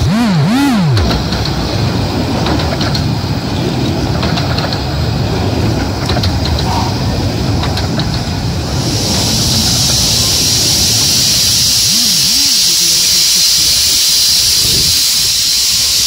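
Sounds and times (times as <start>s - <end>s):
miniature train carriages rolling: 0.9s - 16.0s.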